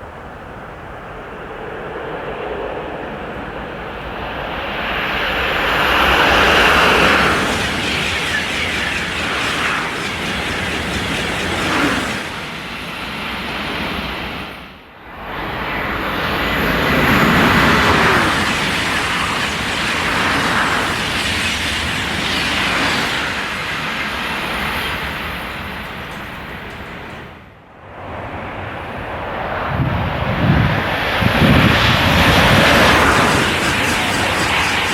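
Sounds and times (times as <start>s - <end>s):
high-speed train rushing past: 0.0s - 34.9s.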